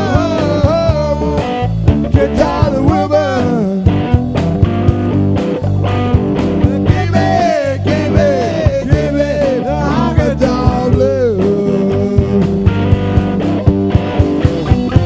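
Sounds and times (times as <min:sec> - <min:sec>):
bass guitar groove: 0:00.0 - 0:15.0
drums: 0:00.0 - 0:15.0
lead guitar bending notes: 0:00.0 - 0:15.0.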